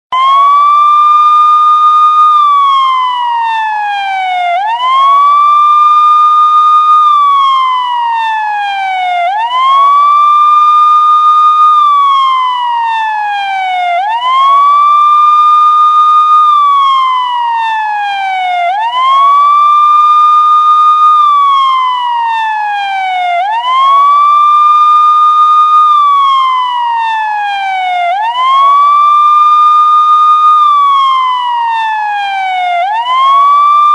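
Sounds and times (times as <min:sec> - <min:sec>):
police siren wailing: 0:00.1 - 0:33.9.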